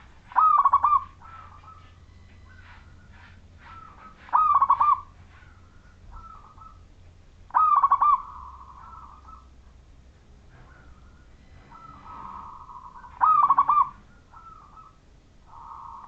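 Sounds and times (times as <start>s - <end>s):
dove cooing: 0.0s - 6.8s, 7.5s - 9.6s, 10.5s - 16.0s.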